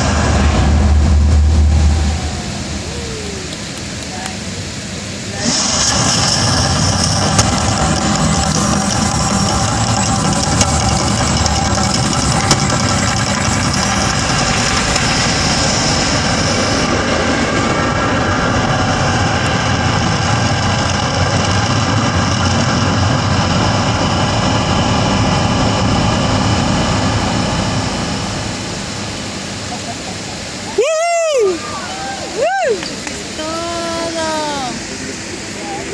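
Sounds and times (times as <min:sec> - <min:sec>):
loud steady rumble: 0:00.0 - 0:35.9.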